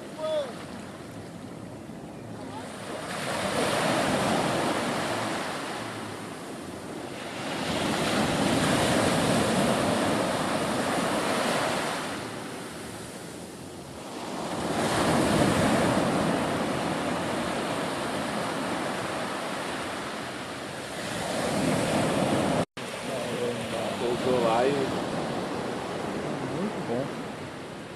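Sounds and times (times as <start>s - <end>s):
small surf washing up beach: 0.0s - 1.4s, 2.4s - 27.9s.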